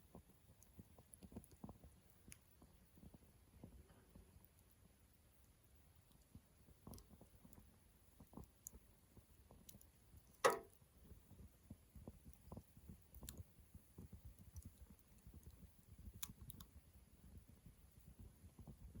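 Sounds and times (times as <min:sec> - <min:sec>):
campfire crackling and popping: 0:00.1 - 0:03.7, 0:04.3 - 0:19.0.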